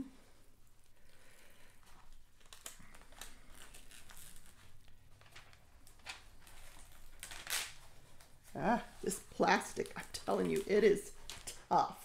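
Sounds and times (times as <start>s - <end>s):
plastic film crinkling: 0.6s - 12.0s.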